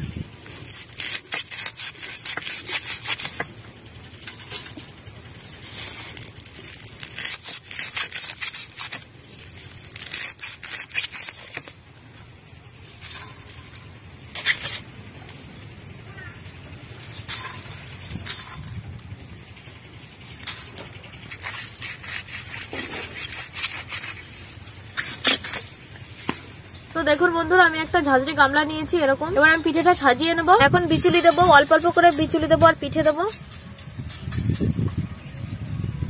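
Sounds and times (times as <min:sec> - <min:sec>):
blade chopping dry straw: 0:00.3 - 0:27.0, 0:30.6 - 0:35.0.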